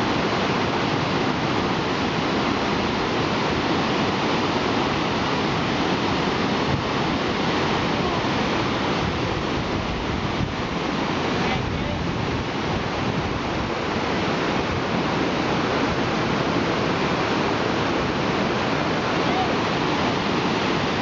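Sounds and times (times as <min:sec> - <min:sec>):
whitewater rapids rushing: 0:00.0 - 0:21.0.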